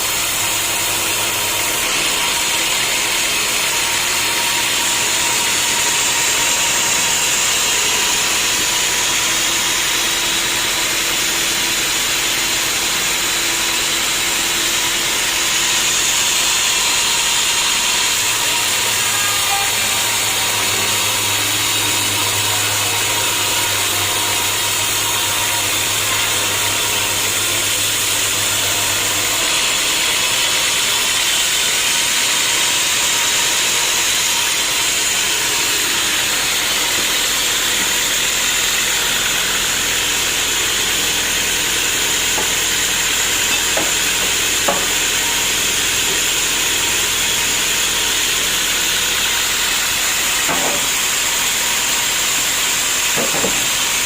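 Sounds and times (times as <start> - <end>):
low motor hum: 0.0 - 54.0
saw cutting through wood: 0.0 - 54.0.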